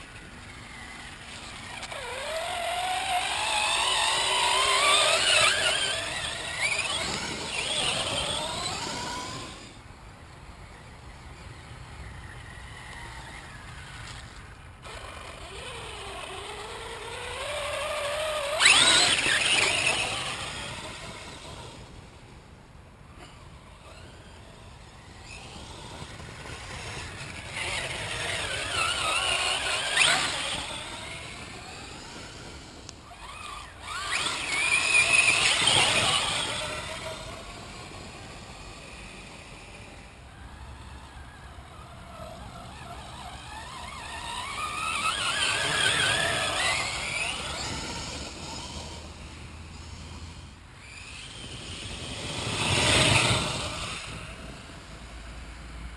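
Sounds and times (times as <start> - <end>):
electric toy truck motor whining: 0.0 - 9.8, 10.6 - 22.3, 23.1 - 55.9.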